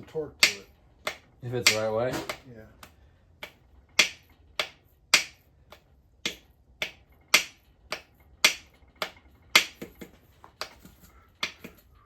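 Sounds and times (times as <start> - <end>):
hammer tapping metal: 0.0 - 11.9.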